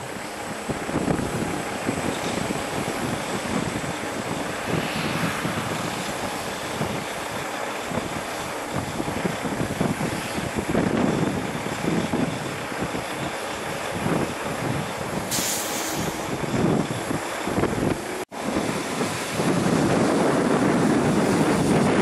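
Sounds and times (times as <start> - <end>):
jet engine noise: 0.0 - 22.0
wind buffeting microphone: 0.0 - 22.0.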